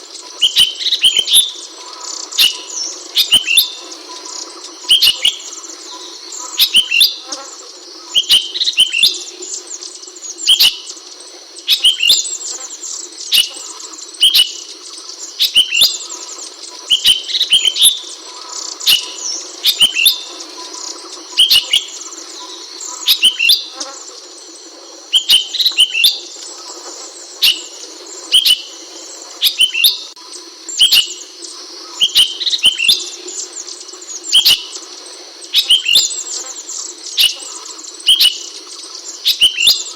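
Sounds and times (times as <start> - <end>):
bird chirping: 0.0 - 11.0, 11.6 - 39.9
high-pitched hiss: 0.0 - 39.9.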